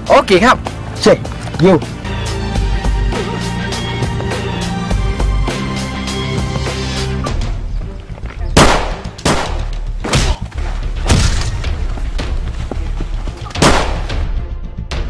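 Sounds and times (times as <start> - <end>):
low droning music: 0.0 - 15.0.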